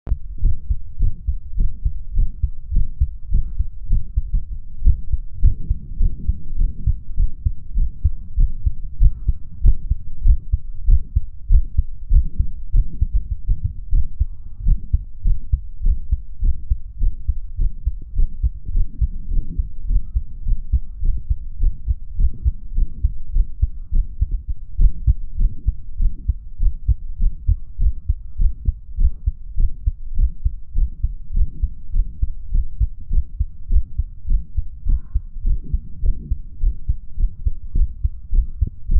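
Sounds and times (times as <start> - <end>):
faint heart murmur: 0.1 - 38.9
heartbeat thumps: 0.1 - 38.9.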